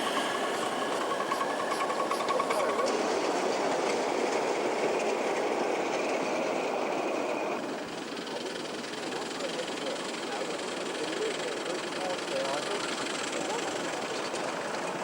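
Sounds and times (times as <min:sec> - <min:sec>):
model steam locomotive rushing: 0:00.0 - 0:15.0.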